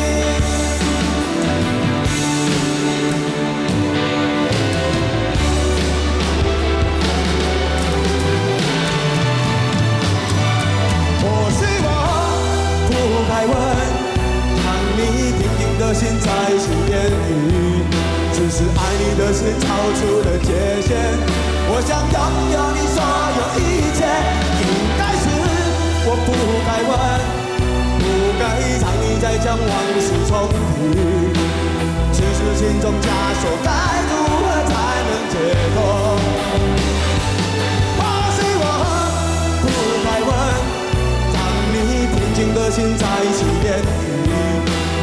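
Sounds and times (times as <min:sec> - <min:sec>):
live pop-rock band playing: 0:00.0 - 0:45.0.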